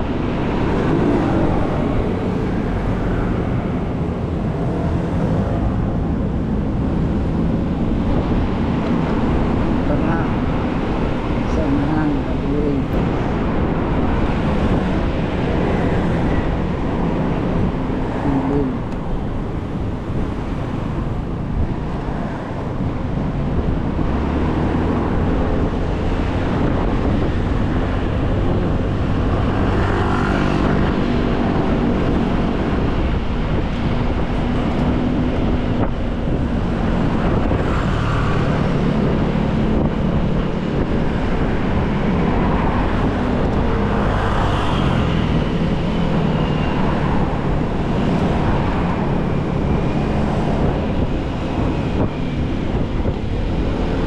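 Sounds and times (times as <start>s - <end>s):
city traffic noise: 0.0s - 54.0s
vehicle engine hum: 0.0s - 54.0s
wind rushing over microphone: 0.0s - 54.0s.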